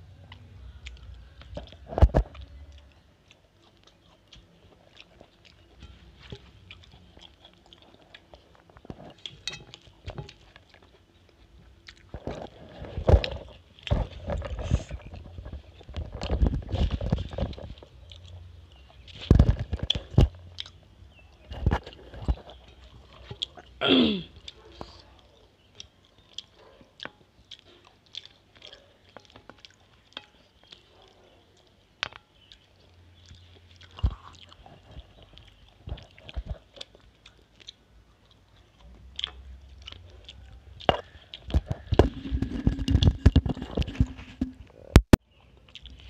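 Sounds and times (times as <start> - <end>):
fingers mixing food on steel plate: 0.0 - 44.7
chewing and mouth sounds: 0.0 - 46.0.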